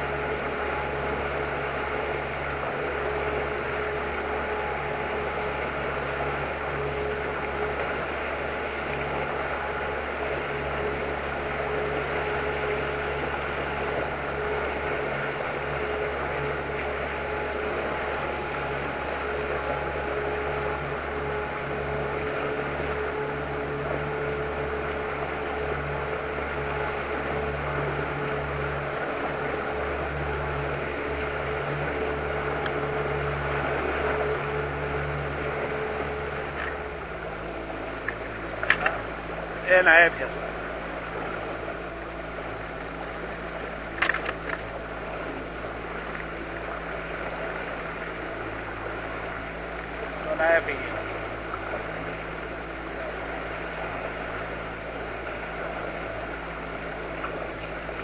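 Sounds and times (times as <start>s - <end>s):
outboard motor running: 0.0s - 58.0s
water rushing along hull: 0.0s - 58.0s.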